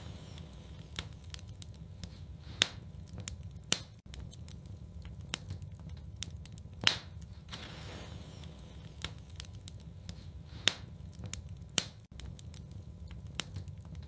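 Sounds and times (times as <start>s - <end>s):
fire pops: 0.0s - 14.0s
low steady rumble: 0.0s - 14.0s
wood fire crackling: 0.0s - 14.0s.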